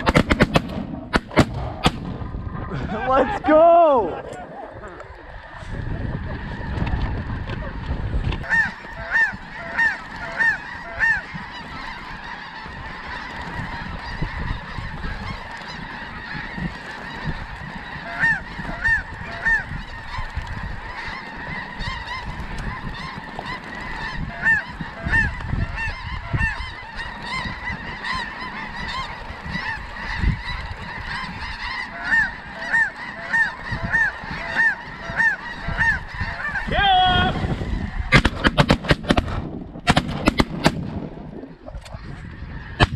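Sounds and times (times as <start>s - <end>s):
geese honking: 0.0s - 39.2s, 39.9s - 42.9s.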